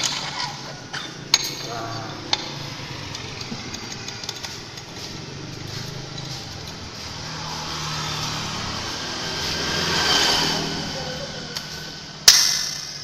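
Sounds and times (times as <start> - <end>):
vehicle engine running: 1.6 - 13.0.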